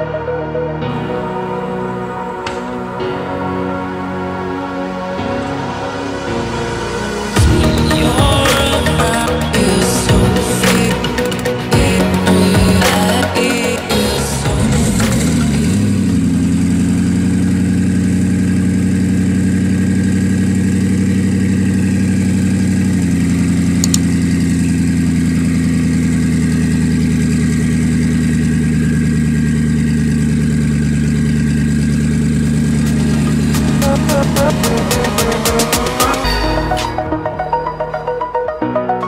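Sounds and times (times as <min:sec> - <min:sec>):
car engine idling: 0:06.7 - 0:38.9.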